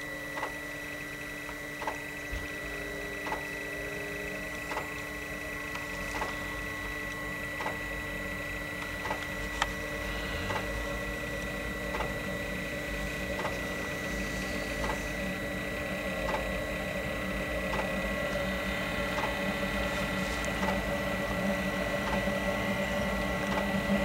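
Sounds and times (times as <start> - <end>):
heater blower whine and hum: 0.0 - 24.0.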